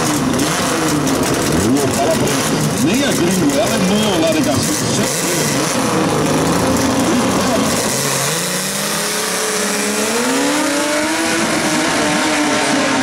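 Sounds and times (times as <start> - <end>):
drag racing cars accelerating: 0.0 - 13.0.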